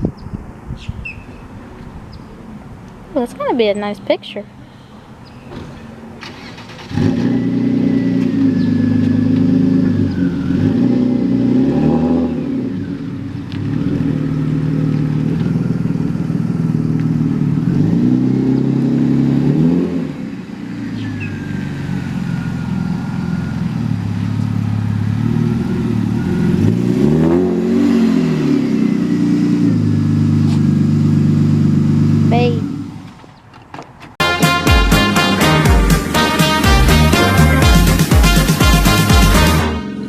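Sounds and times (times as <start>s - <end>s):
car engine revving: 5.7s - 33.2s, 34.2s - 40.0s.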